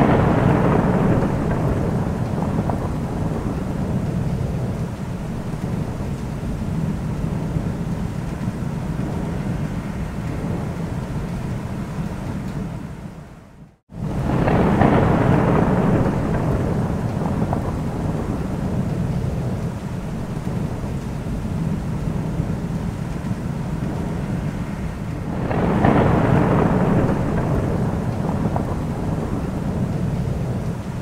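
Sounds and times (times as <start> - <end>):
rolling thunder: 0.0 - 31.0
steady rain: 0.0 - 31.0.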